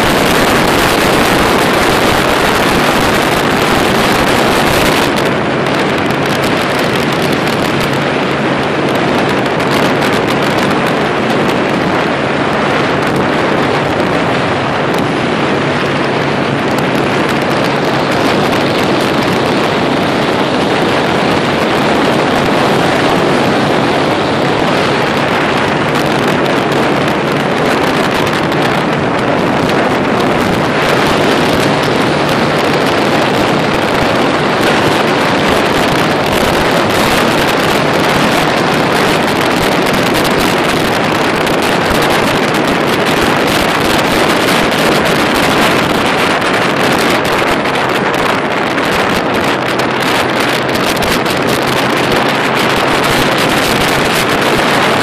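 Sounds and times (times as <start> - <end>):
motorcycle engine: 0.0 - 55.0
wind rushing over microphone: 0.0 - 55.0.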